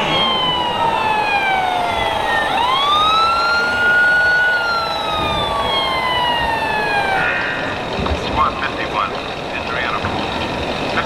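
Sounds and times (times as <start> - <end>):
wailing siren: 0.0 - 9.1
hall noise: 0.0 - 11.0.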